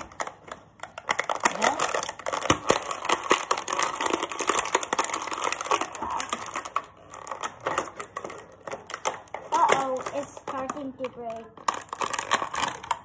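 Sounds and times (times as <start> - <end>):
plastic wrapper crackling: 0.0 - 13.0.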